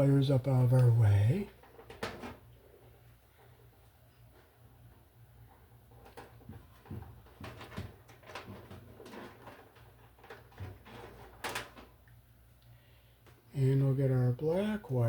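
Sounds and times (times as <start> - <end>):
faint steady hum: 0.0 - 15.0
electrical wires rustling and clicking: 0.6 - 13.5.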